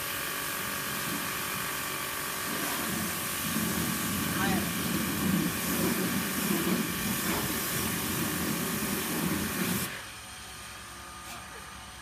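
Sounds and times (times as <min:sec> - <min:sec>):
garden hose spraying water on car: 0:00.0 - 0:10.1.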